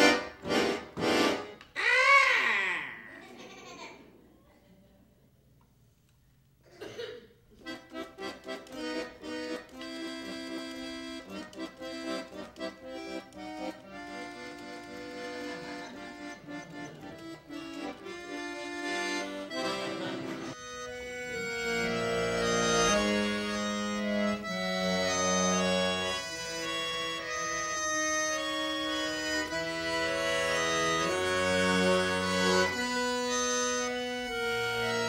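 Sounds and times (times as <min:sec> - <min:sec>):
accordion music: 0:00.0 - 0:01.8, 0:07.6 - 0:35.0.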